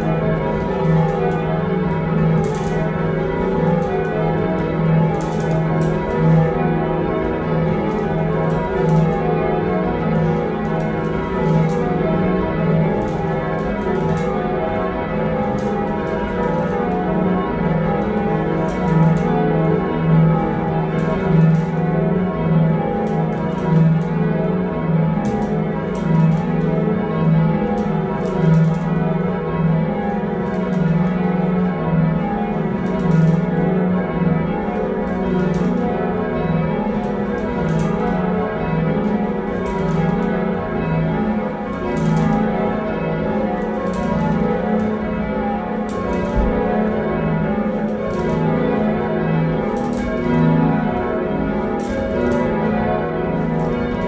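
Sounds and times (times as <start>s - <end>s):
church bells change ringing: 0.0s - 54.0s.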